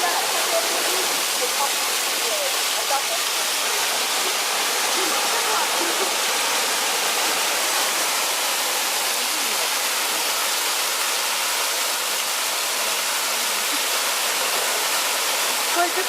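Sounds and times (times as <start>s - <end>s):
water pouring down waterfall: 0.0s - 16.0s.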